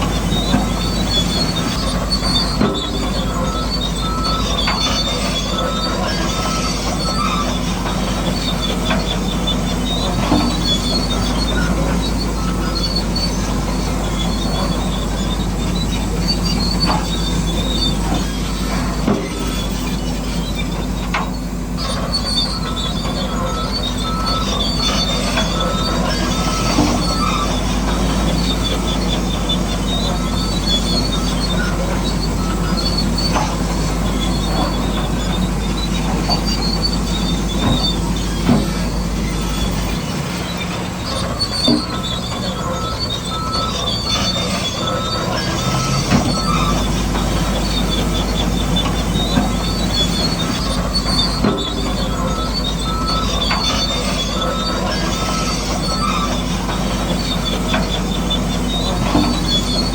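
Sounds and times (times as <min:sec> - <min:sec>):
electric motors whining: 0:00.0 - 0:59.9.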